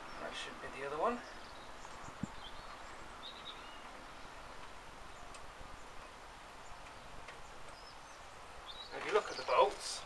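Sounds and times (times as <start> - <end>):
faint outdoor background noise: 0.0 - 10.0
high bird chirps: 1.2 - 9.7.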